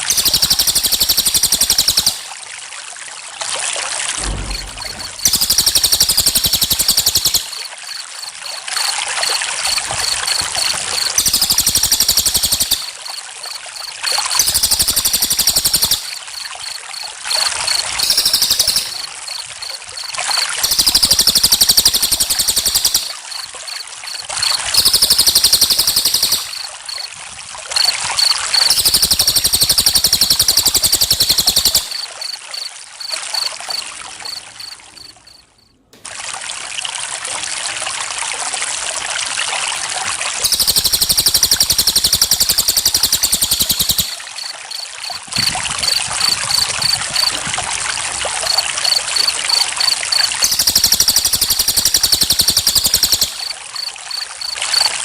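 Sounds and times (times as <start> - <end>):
crickets chirping: 0.0 - 2.4, 4.2 - 35.7, 39.8 - 55.0
water trickling: 0.0 - 55.0.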